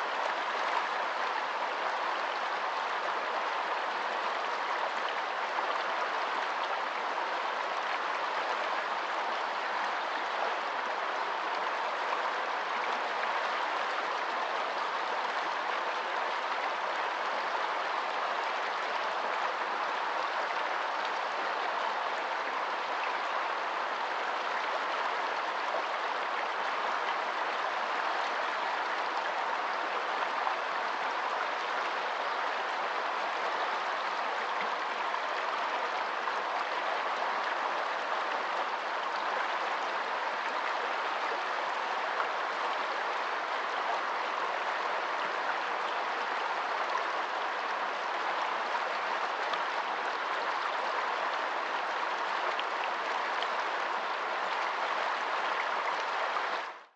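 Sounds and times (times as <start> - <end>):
river rushing over rocks: 0.0 - 56.8.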